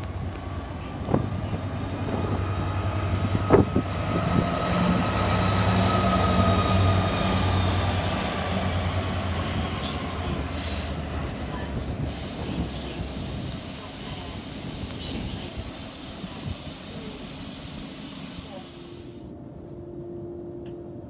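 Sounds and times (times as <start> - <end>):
diesel locomotive passing: 0.0 - 21.0.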